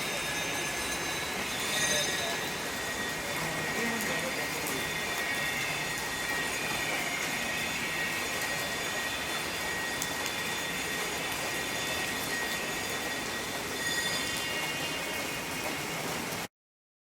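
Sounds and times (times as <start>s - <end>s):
rain falling hiss: 0.0s - 16.5s
water drips: 0.4s - 16.5s.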